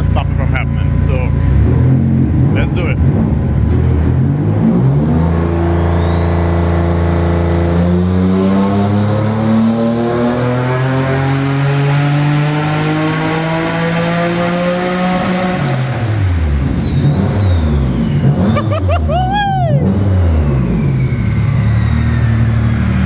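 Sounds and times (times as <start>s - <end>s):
high turbo whine: 0.0s - 23.0s
car engine revving on dyno: 0.8s - 23.0s.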